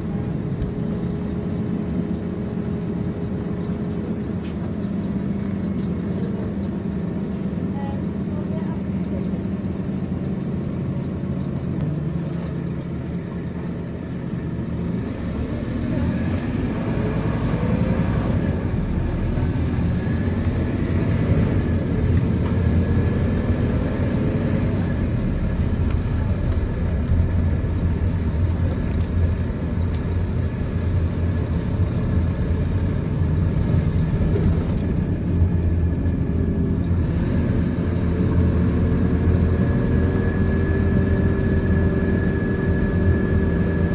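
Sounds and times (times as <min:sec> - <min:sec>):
bus diesel engine: 0:00.0 - 0:43.9.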